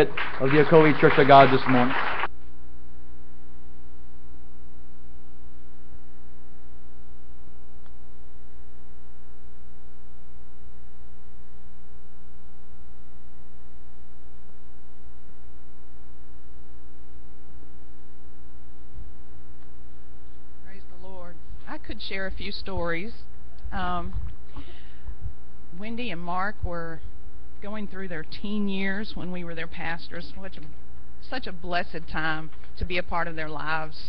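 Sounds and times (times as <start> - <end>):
electrical mains hum: 0.0 - 34.0.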